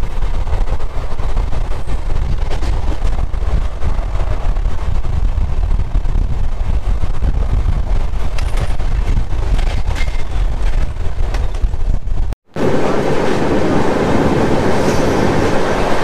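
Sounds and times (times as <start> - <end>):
train running low rumble: 0.0 - 16.0.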